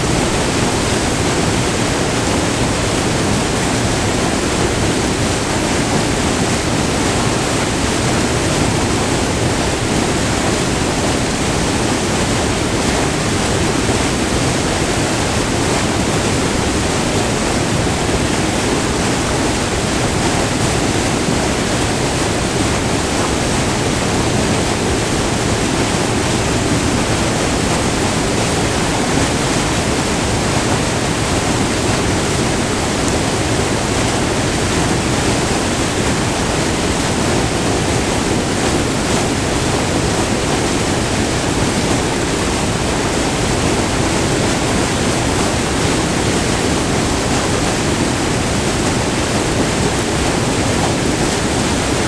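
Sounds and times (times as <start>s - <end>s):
water rushing over rock: 0.0s - 52.0s.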